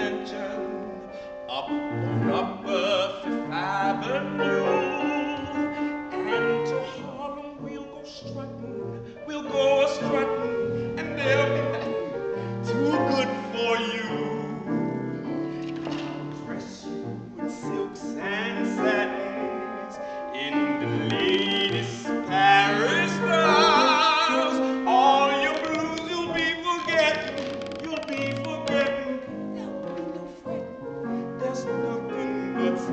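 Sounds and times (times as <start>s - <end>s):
piano accompaniment: 0.0s - 32.9s
tenor singing operatically: 1.5s - 14.8s, 16.1s - 30.6s.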